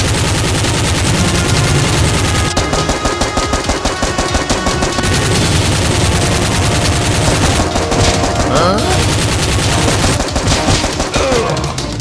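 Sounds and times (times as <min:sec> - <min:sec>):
rapid machine-gun fire: 0:00.0 - 0:12.0.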